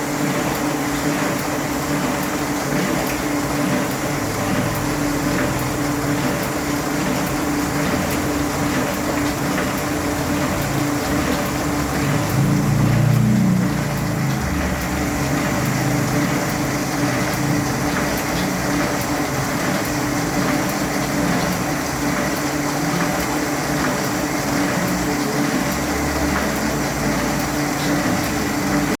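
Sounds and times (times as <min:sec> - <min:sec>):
printing press humming: 0:00.0 - 0:29.0.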